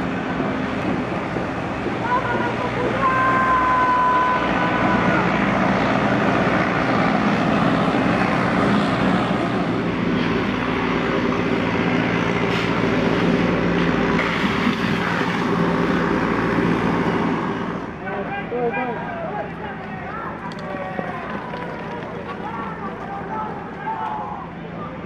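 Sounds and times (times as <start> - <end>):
truck engine drone: 0.0 - 25.0.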